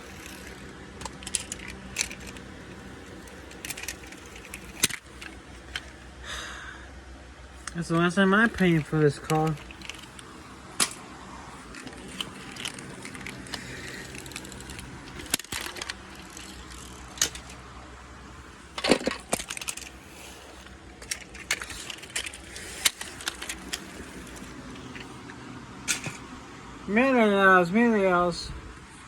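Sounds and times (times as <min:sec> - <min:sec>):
sharp clicks and rattles: 0:00.0 - 0:06.1, 0:07.6 - 0:26.4
low hum of car interior: 0:00.0 - 0:29.0.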